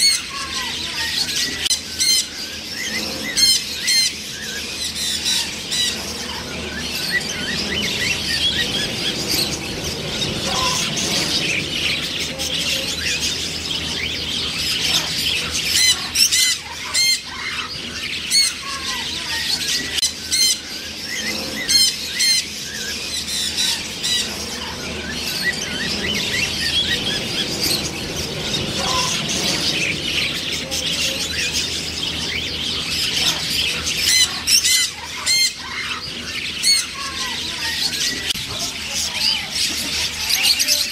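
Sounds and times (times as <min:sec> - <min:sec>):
macaws squawking and chattering: 0:00.0 - 0:40.9.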